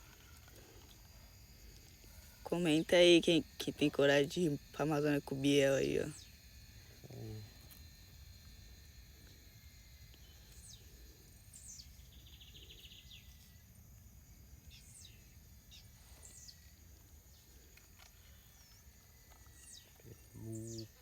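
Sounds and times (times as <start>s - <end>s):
cricket-like trill: 0.0s - 21.0s
high insect drone: 0.0s - 21.0s.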